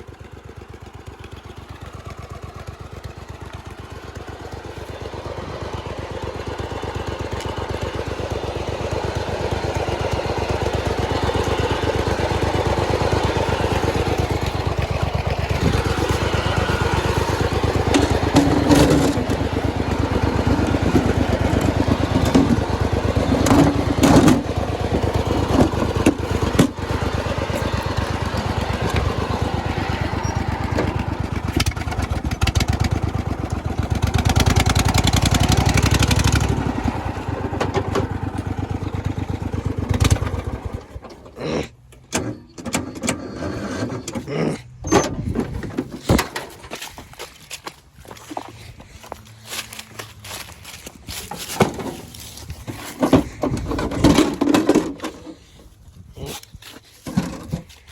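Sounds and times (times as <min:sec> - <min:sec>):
lawnmower engine running: 0:00.0 - 0:57.9.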